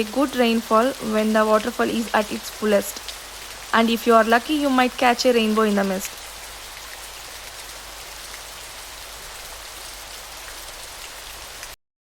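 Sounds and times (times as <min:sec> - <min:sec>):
falling water hiss: 0:00.0 - 0:11.8.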